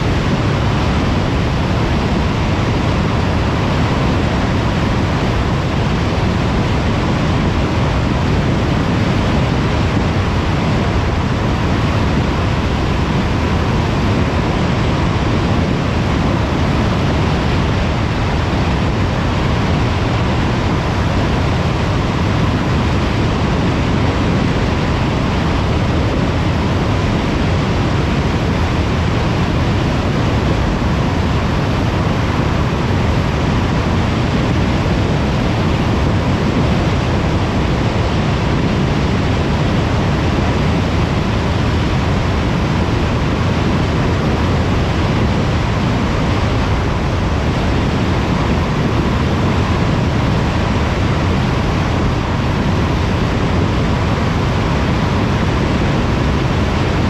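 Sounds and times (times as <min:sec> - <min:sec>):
faint steady hum: 0:00.0 - 0:57.0
tyre and wind road noise: 0:00.0 - 0:57.0.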